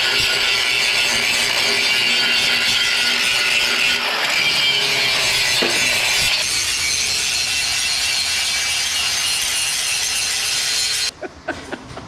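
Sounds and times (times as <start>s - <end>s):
power tool rasping: 0.0s - 11.1s.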